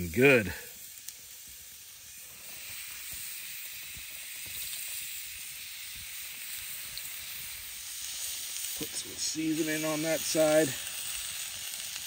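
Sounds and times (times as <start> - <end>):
steak and bread sizzling in oil: 0.0 - 12.0.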